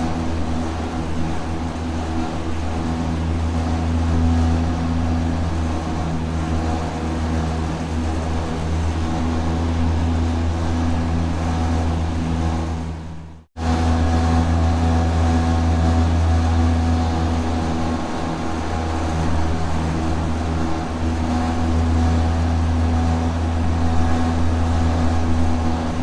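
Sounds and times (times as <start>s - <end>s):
factory machinery drone: 0.0s - 26.0s.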